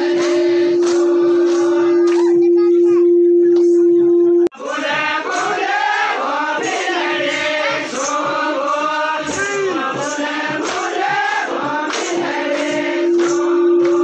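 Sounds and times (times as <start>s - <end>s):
group singing folk song: 0.0s - 2.3s, 4.5s - 14.0s.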